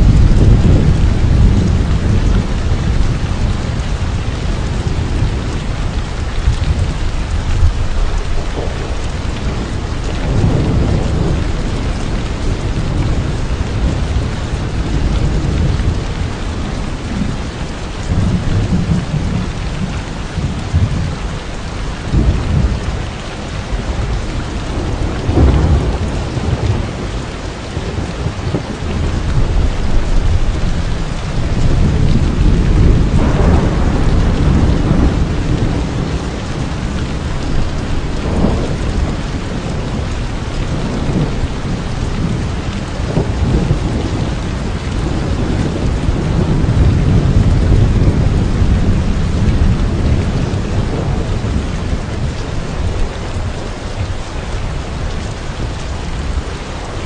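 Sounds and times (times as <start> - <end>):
heavy rain pouring: 0.0 - 57.0
thunder rolling: 0.0 - 57.0.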